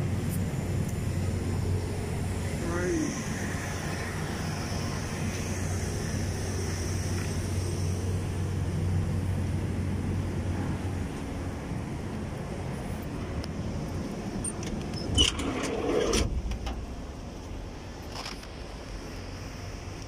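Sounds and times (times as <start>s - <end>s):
construction machine engine humming: 0.0s - 20.0s.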